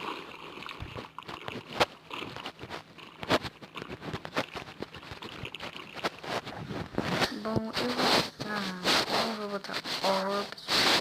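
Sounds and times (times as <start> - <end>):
wet slime squishing: 0.0 - 11.0.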